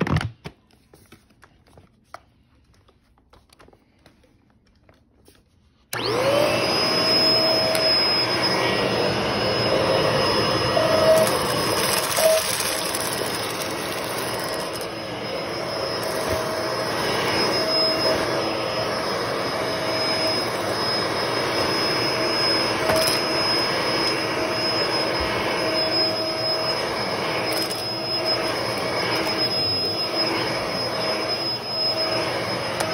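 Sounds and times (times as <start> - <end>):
vacuum cleaner running: 5.9 - 32.9.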